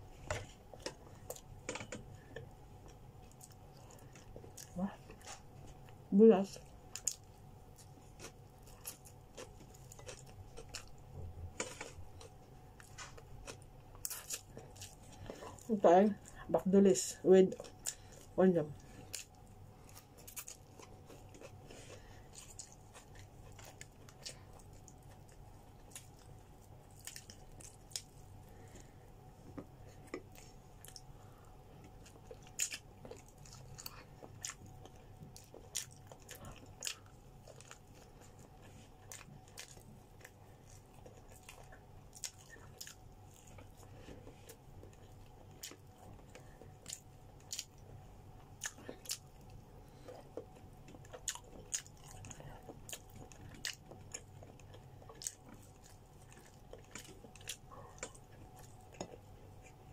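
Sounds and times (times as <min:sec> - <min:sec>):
faint steady hum: 0:00.0 - 0:59.9
person chewing: 0:00.1 - 0:06.0, 0:06.6 - 0:16.4, 0:17.5 - 0:59.9.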